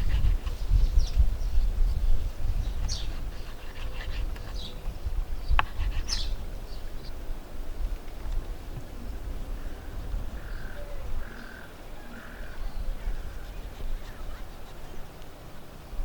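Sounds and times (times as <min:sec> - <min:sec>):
low rumbling background noise: 0:00.0 - 0:16.0
small birds chirping: 0:00.1 - 0:07.2, 0:08.1 - 0:15.3.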